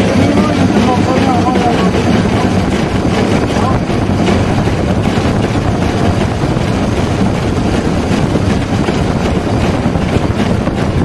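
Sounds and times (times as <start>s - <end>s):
light irregular clatter: 0.0s - 11.0s
steam locomotive running: 0.0s - 11.0s.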